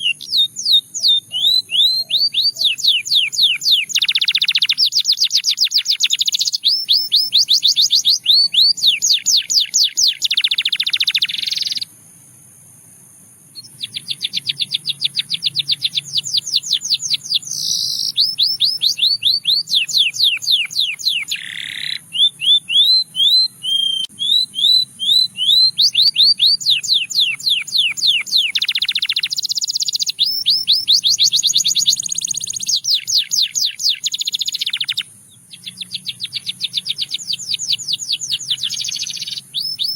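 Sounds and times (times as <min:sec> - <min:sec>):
canary singing trills: 0:00.0 - 0:11.9, 0:13.5 - 0:39.9.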